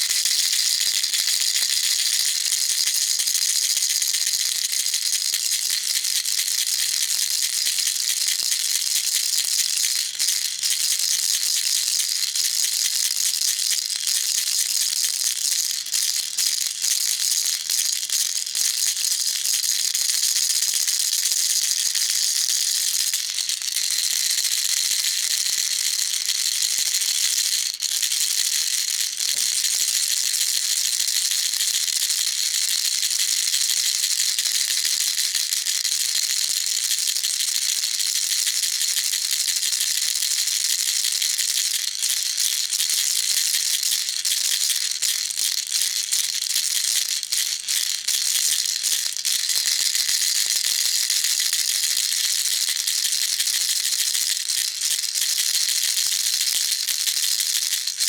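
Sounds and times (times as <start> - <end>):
baby rattle shaken: 0.0 - 8.6, 17.4 - 58.0.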